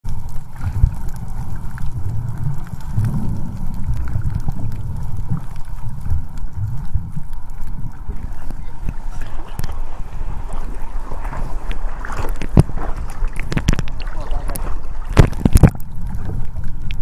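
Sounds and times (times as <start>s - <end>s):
muffled underwater rumbling: 0.0s - 17.0s.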